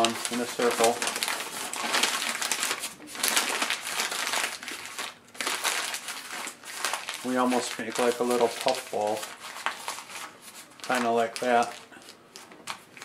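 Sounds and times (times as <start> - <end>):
newspaper crumpling: 0.0 - 13.0.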